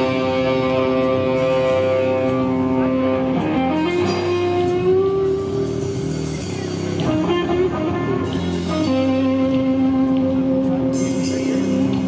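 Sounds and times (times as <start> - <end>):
drum kit with cymbal hits: 0.0 - 12.0
electric guitar notes: 0.0 - 12.0.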